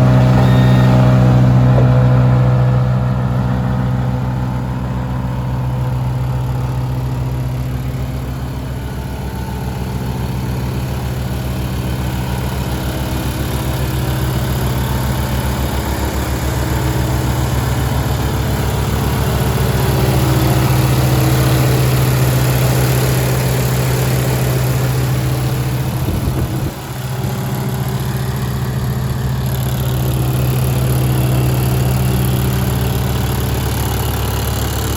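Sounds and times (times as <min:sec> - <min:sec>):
wood chipper engine idling: 0:00.0 - 0:34.9.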